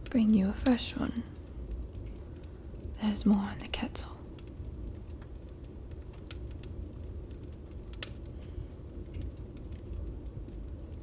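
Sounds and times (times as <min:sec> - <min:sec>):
fireplace crackling: 0:00.0 - 0:11.0.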